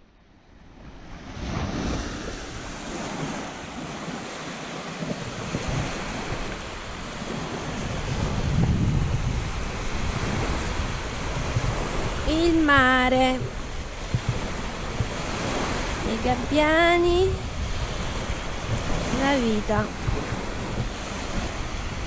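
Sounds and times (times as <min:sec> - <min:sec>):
small waves breaking on shore: 0:00.0 - 0:22.0
wind buffeting microphone: 0:00.5 - 0:22.0.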